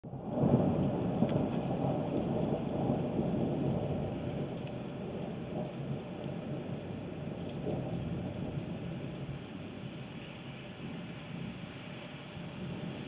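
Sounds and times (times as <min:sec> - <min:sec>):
rain falling: 0:00.1 - 0:13.0
rolling thunder rumbling: 0:00.1 - 0:13.0.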